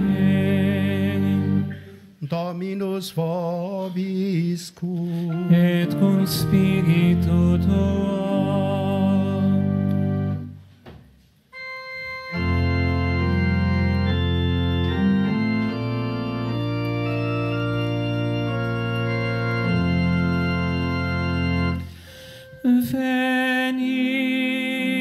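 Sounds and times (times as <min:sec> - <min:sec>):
organ playing sustained chords: 0:00.0 - 0:02.1, 0:05.3 - 0:10.7, 0:11.5 - 0:25.0.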